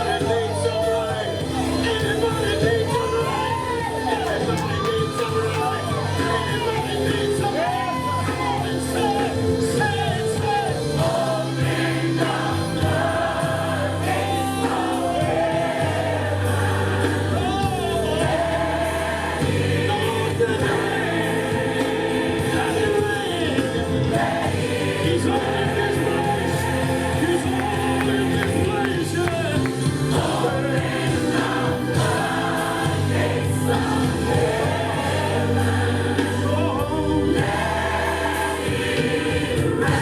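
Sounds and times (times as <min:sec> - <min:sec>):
band playing sustained chords: 0:00.0 - 0:40.0
gospel choir singing: 0:00.0 - 0:40.0.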